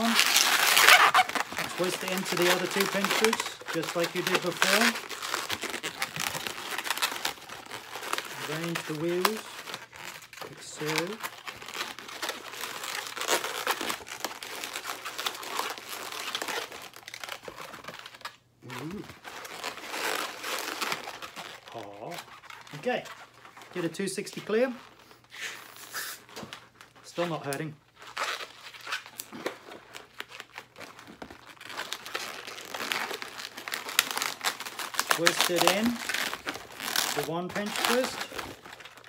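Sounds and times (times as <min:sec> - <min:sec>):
balloons rubbing and crackling: 0:00.0 - 0:39.0.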